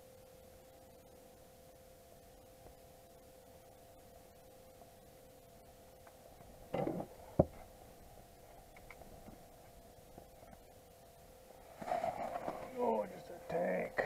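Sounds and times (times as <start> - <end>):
faint two-tone hum: 0.0 - 14.0.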